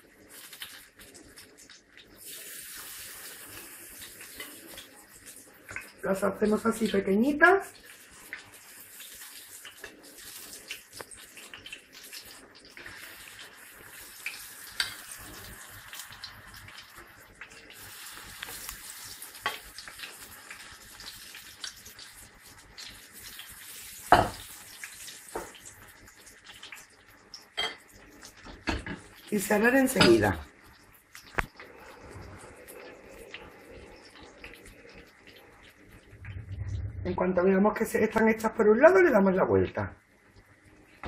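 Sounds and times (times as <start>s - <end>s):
fritters sizzling in hot oil: 0.0s - 36.4s.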